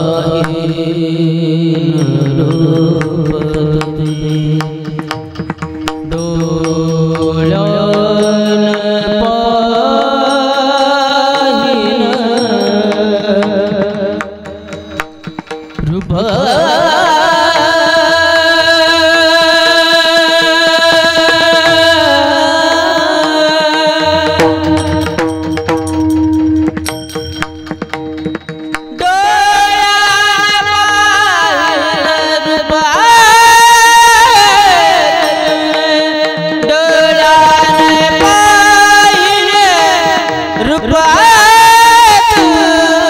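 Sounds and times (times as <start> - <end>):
person singing devotional song: 0.0 - 27.8, 28.4 - 43.0
tabla: 0.0 - 43.0.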